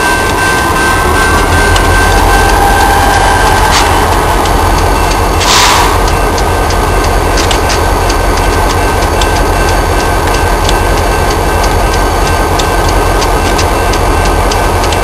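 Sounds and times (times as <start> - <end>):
thin steady whine: 0.0 - 14.8
freight train rumbling: 0.0 - 15.0
train wheels clicking on rail joints: 0.0 - 15.0.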